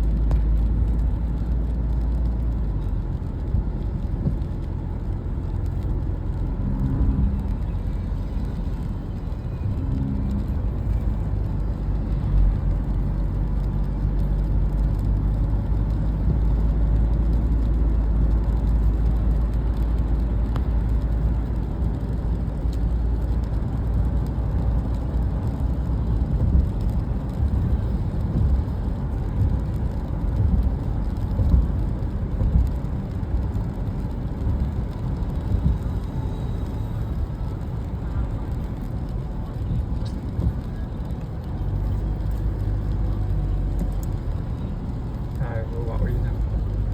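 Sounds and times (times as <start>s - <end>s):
road vehicle rumble: 0.0s - 46.9s.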